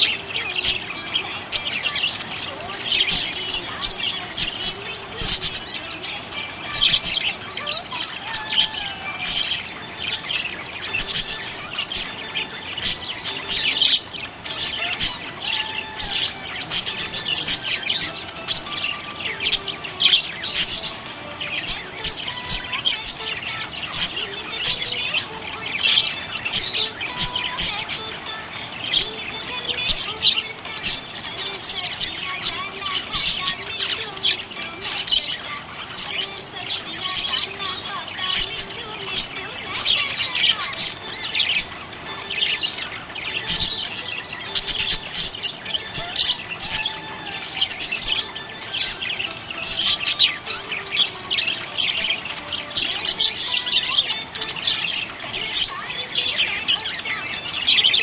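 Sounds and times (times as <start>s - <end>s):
budgerigars chirping and warbling: 0.0s - 58.0s.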